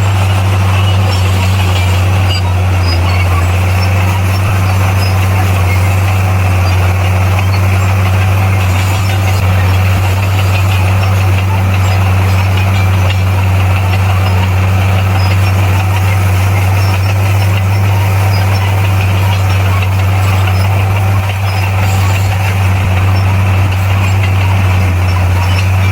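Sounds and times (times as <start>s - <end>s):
bulldozer diesel engine droning: 0.0s - 25.9s.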